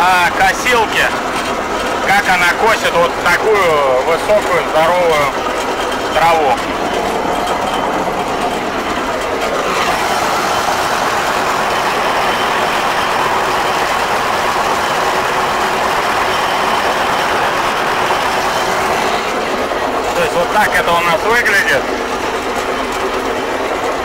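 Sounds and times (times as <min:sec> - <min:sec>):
mower running under load: 0:00.0 - 0:24.0.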